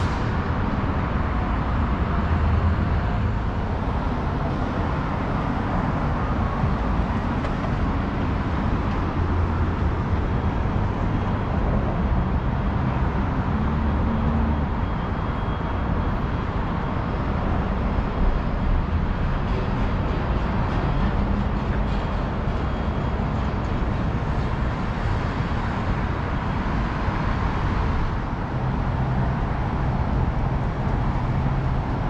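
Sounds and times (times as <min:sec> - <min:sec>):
low rumble of road traffic: 0:00.0 - 0:32.0.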